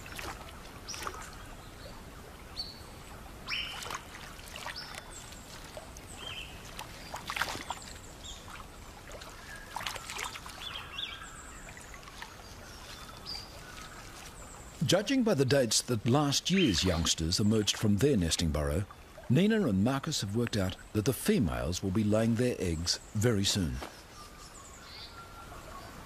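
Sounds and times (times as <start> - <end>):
water splashes: 0.0 - 24.0
steady stream hiss: 0.0 - 26.0.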